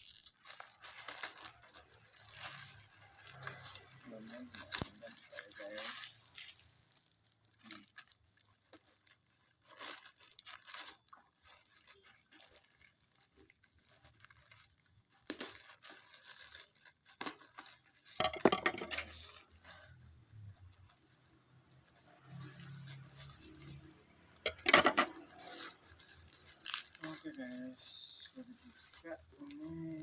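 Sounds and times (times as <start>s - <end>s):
packaging tearing and rustling: 0.0s - 30.0s.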